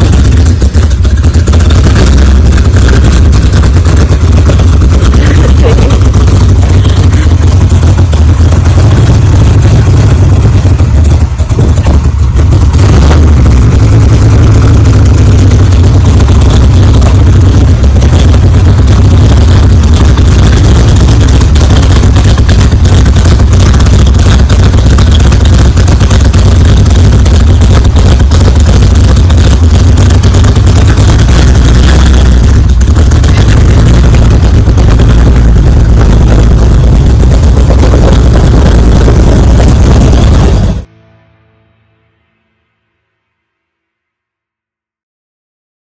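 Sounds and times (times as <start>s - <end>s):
loud car engine running: 0.0s - 41.0s.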